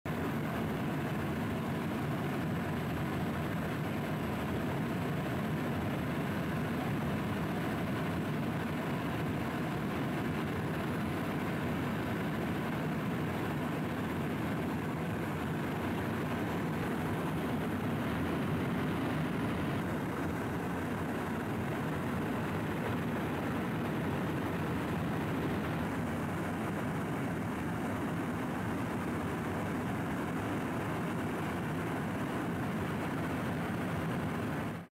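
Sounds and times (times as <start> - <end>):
aircraft engine and airflow noise: 0.1 - 34.9.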